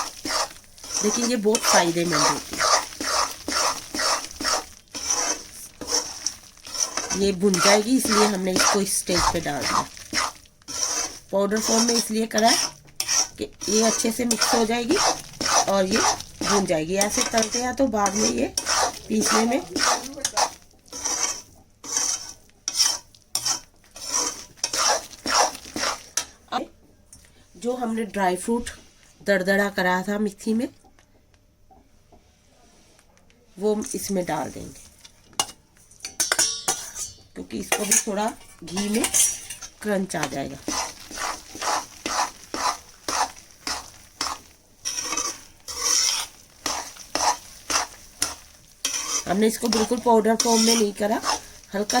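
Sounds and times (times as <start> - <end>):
spatula scraping a pan: 0.0 - 26.4, 35.4 - 52.0.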